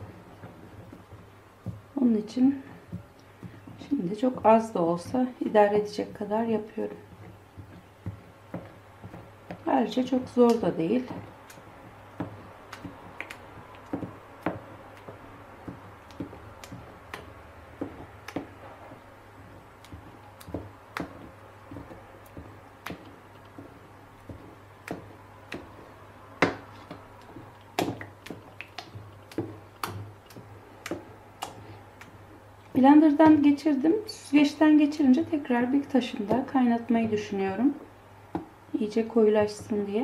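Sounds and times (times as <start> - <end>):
low steady hum: 0.0 - 40.0
wooden spoon knocking metal bowl: 0.4 - 40.0.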